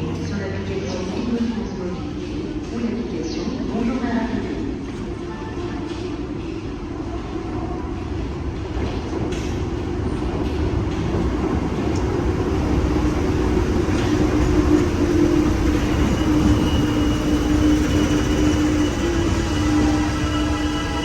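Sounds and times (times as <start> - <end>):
train rumbling through station: 0.0 - 21.0.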